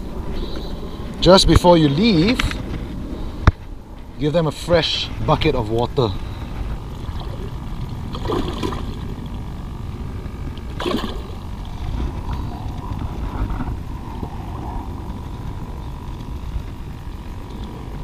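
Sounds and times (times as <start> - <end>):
water gurgling and sloshing: 0.0 - 18.0.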